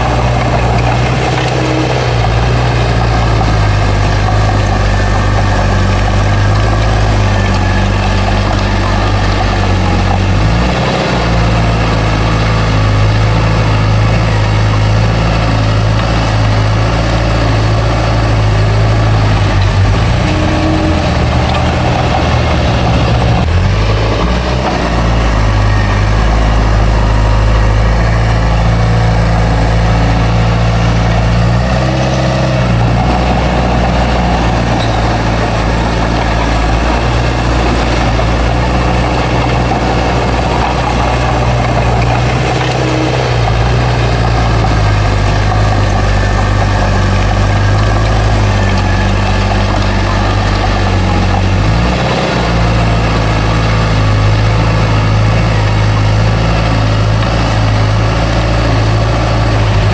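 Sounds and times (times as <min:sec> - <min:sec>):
bulldozer diesel engine working: 0:00.0 - 0:59.9.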